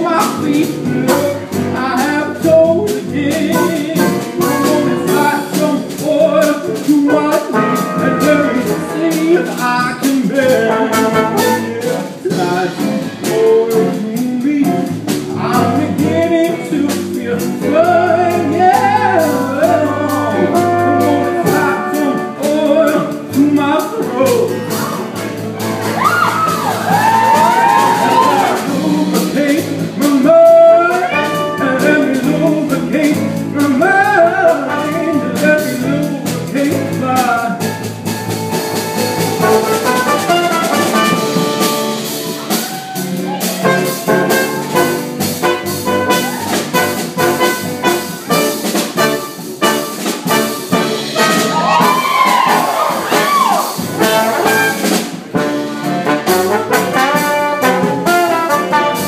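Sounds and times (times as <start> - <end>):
brass jazz music: 0.0 - 59.0.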